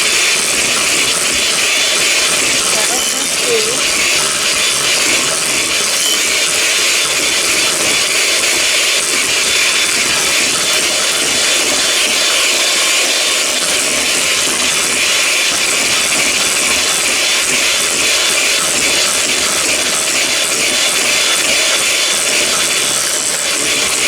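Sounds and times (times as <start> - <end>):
electric mixer running: 0.0 - 24.0.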